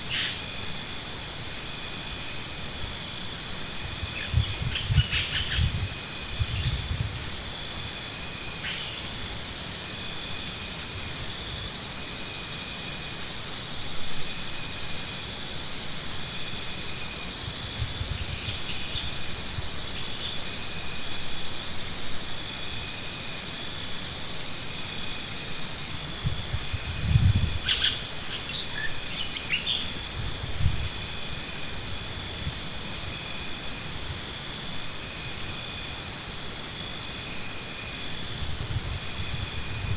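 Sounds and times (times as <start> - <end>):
pulsed insect trills: 0.0 - 39.9.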